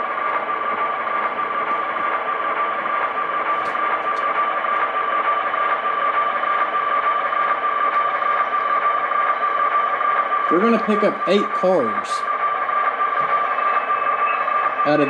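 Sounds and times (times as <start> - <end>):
model train running: 0.0 - 15.0.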